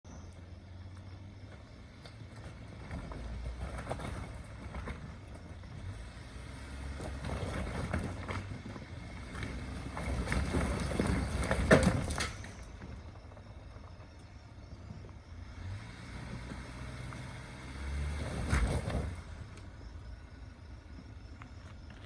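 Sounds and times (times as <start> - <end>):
truck engine running: 0.0 - 22.0
rocks crunching under tyres: 0.1 - 22.0.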